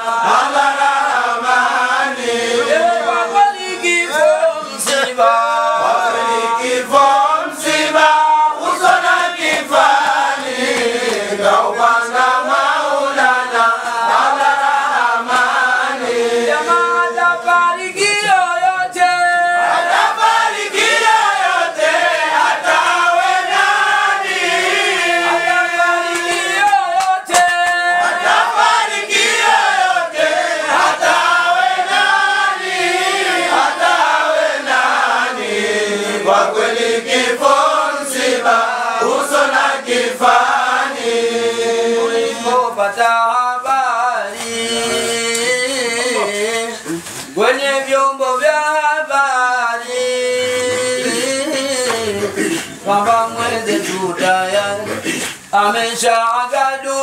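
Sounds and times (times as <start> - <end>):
men chanting together: 0.0 - 57.0.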